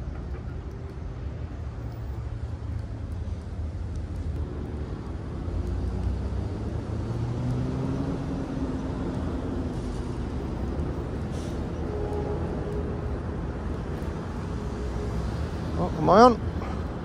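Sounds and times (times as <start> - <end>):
low rumble of road traffic: 0.0 - 17.0
vehicle engine drone: 0.0 - 17.0.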